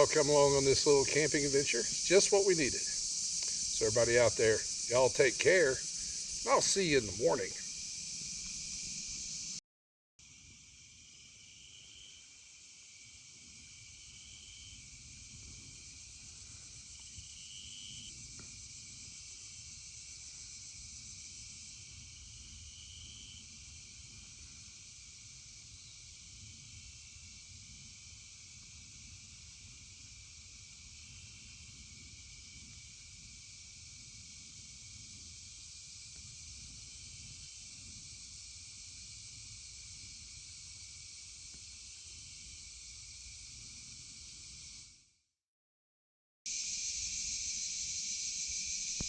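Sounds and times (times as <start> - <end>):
night insects chirring: 0.0 - 9.6, 10.2 - 45.1, 46.5 - 49.0.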